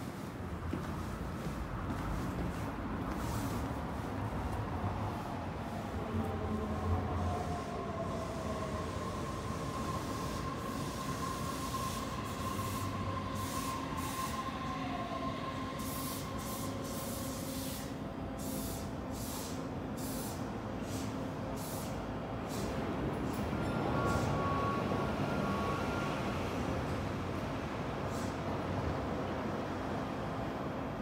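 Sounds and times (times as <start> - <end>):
monorail train whine: 0.0 - 31.0.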